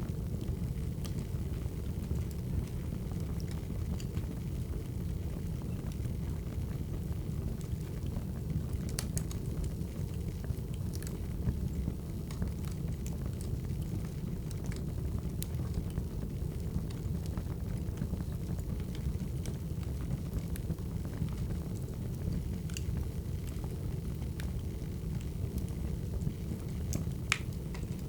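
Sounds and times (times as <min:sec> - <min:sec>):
wood fire crackling: 0:00.1 - 0:28.0.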